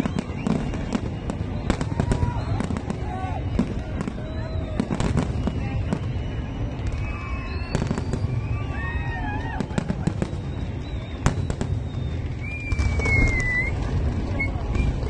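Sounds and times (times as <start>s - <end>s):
fireworks bangs and crackles: 0.0s - 15.0s
steady low rumble: 0.6s - 15.0s.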